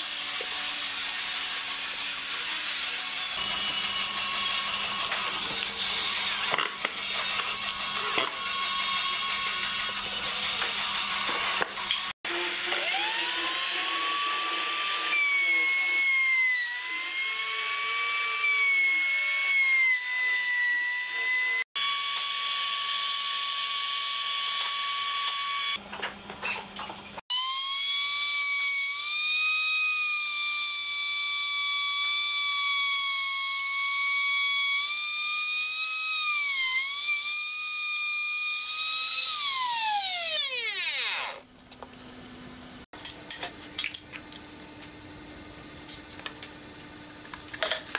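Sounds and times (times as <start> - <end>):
router cutting wood: 0.0 - 25.8, 27.3 - 41.5
router whining: 0.0 - 25.8, 27.3 - 42.7.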